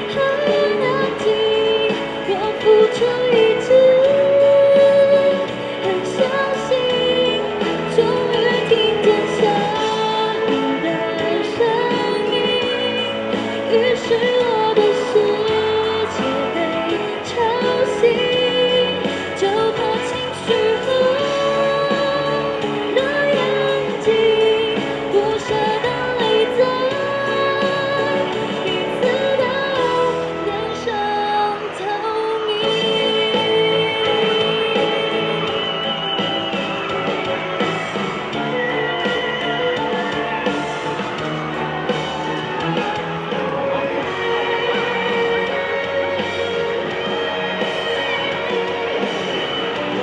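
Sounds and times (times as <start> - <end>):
backing accompaniment: 0.0 - 50.0
slow pop ballad music: 0.0 - 50.0.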